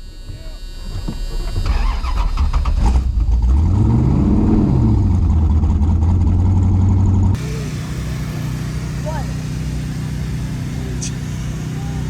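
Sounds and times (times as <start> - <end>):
race car engine idling and revving: 1.5 - 12.0.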